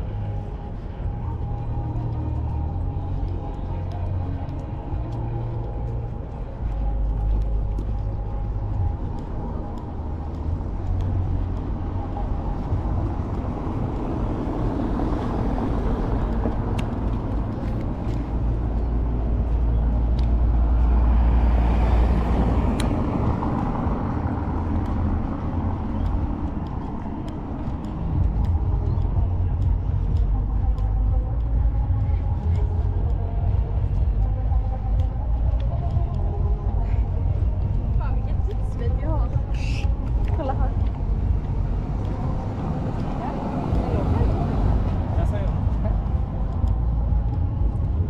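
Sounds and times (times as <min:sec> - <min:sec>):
traffic engines rumbling: 0:00.0 - 0:48.0.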